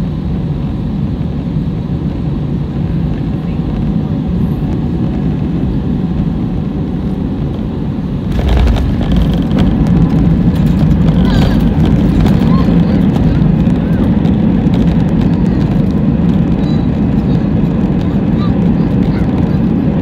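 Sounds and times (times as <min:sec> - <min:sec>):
aircraft engines roaring: 0:00.0 - 0:20.0.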